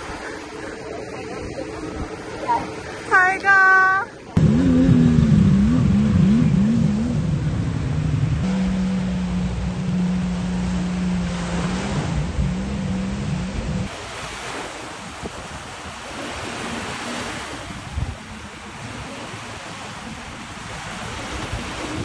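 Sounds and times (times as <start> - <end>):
motorboat engine running: 0.0 - 22.0
sea waves: 0.0 - 22.0
wind: 0.0 - 22.0
wind noise on microphone: 4.4 - 22.0.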